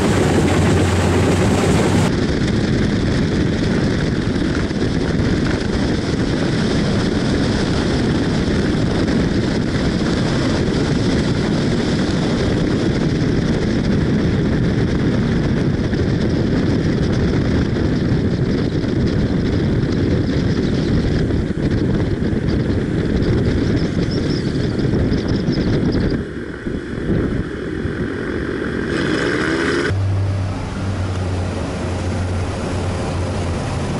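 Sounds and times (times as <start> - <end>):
piston engines and propellers: 0.0 - 33.9.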